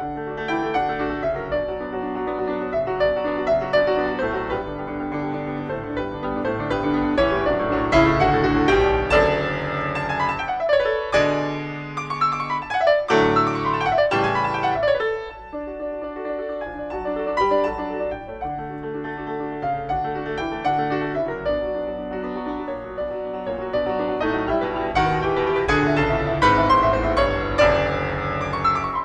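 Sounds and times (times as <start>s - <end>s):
solo piano piece: 0.0s - 29.0s.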